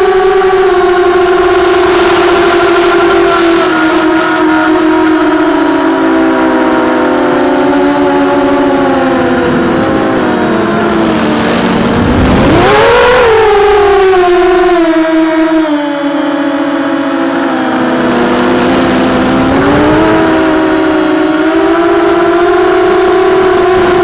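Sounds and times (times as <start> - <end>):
drone motor whining: 0.0 - 24.0.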